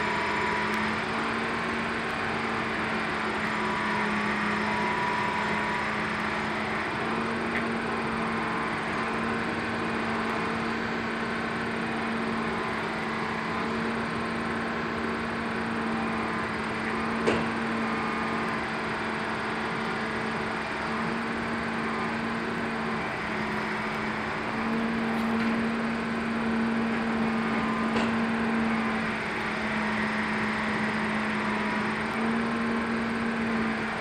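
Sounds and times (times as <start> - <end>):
crane humming: 0.0 - 34.0.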